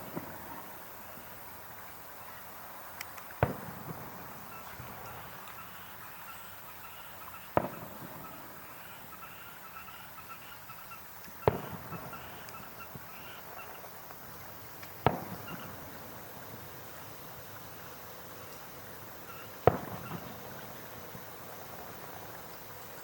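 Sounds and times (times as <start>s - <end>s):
fireworks booming: 0.0s - 1.6s, 3.4s - 6.0s, 7.2s - 10.4s, 11.4s - 23.0s.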